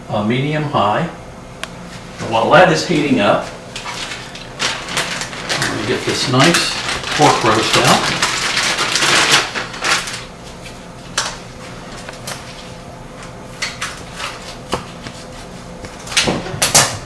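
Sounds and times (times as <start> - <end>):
plastic wrapping crinkling: 2.9 - 17.0.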